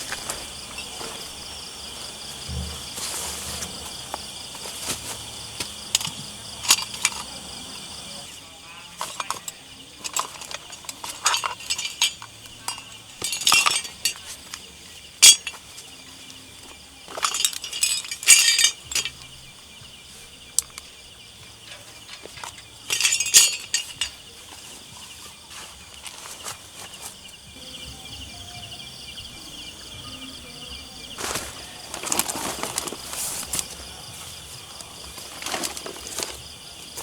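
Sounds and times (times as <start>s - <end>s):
camping gear clinking and rustling: 0.0s - 27.6s, 31.0s - 37.0s
insect drone: 0.0s - 37.0s.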